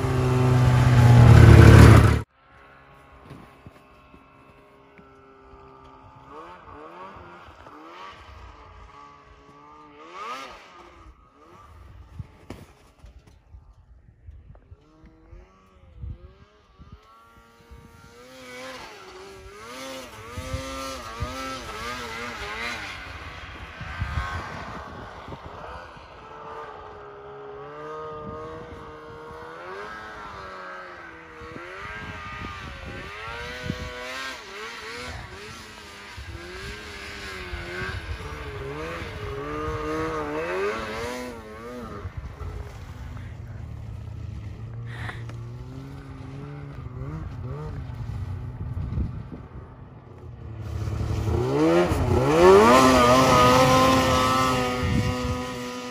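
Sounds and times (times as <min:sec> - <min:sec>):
snowmobile engine revving: 0:00.0 - 0:13.0, 0:14.6 - 0:55.9.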